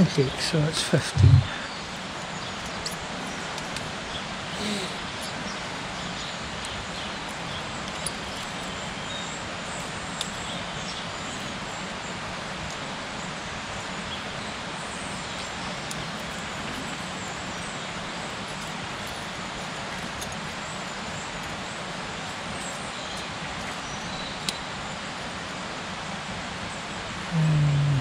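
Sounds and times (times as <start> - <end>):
background rumble and hiss: 0.0 - 28.0.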